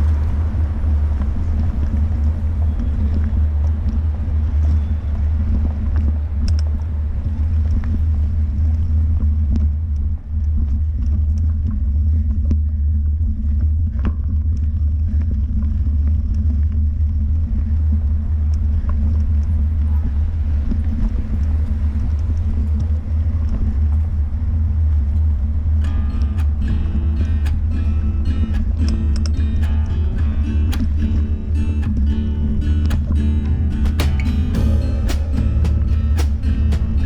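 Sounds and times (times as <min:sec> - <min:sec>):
loud low rumble: 0:00.0 - 0:37.0.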